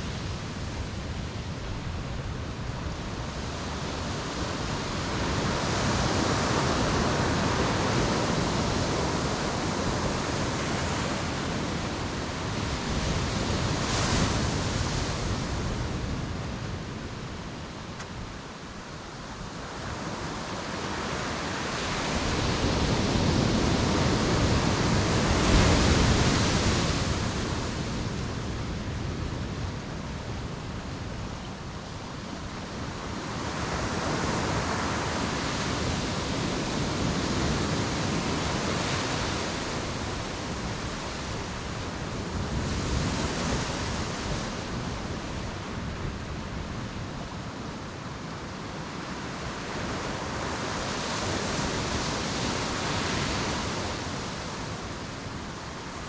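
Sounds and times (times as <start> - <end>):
ocean surf breaking on shore: 0.0 - 56.0.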